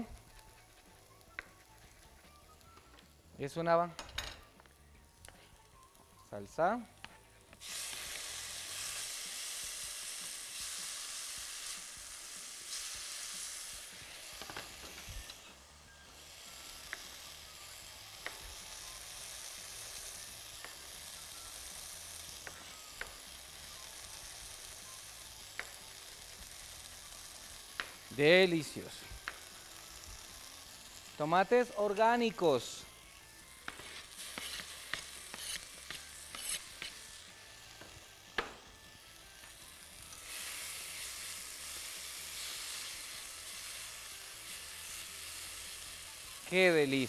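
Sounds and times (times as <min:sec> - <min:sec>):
tomatoes sizzling in hot oil: 0:00.0 - 0:03.7, 0:04.4 - 0:47.0.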